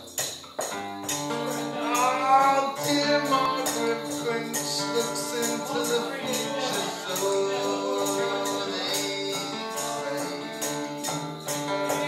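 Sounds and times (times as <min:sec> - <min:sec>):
jingling percussion beat: 0:00.0 - 0:12.0
plucked strings: 0:00.0 - 0:12.0
person singing: 0:01.2 - 0:12.0.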